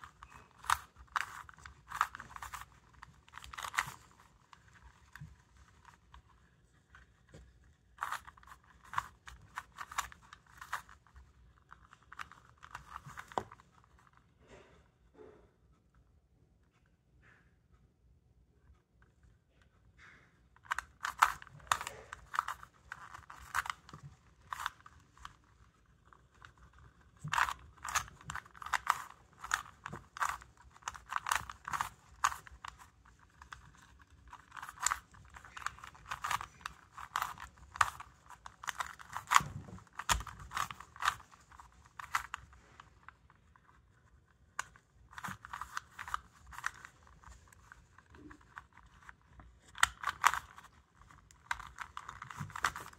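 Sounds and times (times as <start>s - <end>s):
puzzle cube plastic clicks: 0.0s - 14.2s, 20.6s - 52.9s.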